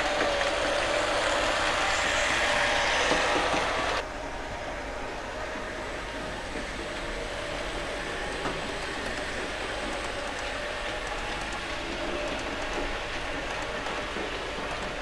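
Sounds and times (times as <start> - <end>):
model train rolling with hum: 0.0 - 15.0.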